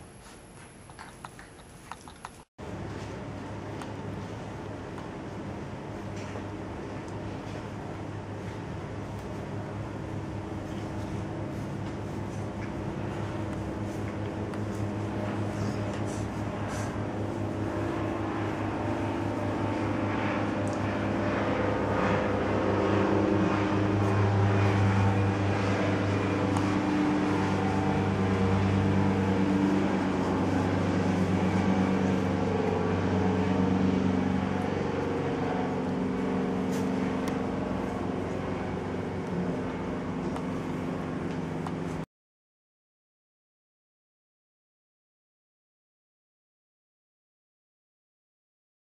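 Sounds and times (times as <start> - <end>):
helicopter flying over: 0.8 - 42.0.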